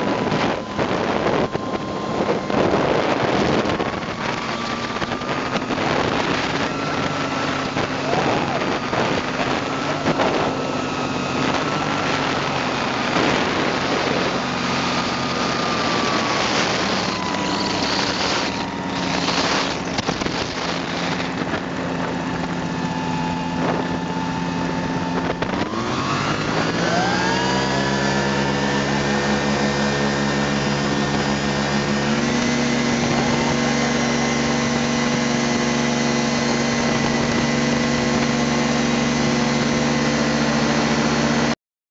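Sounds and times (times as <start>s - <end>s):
light airplane engine running: 0.0s - 41.6s.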